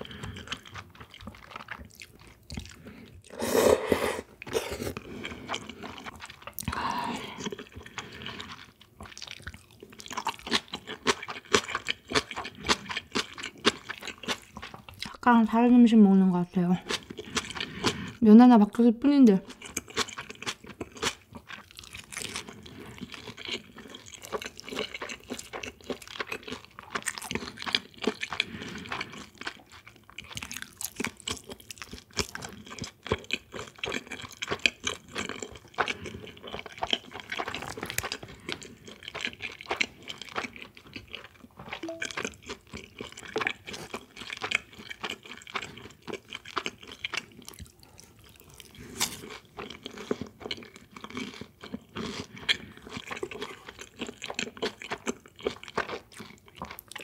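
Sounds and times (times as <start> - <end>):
chewing and slurping noodles: 0.0 - 15.2, 16.8 - 18.2, 19.4 - 57.0.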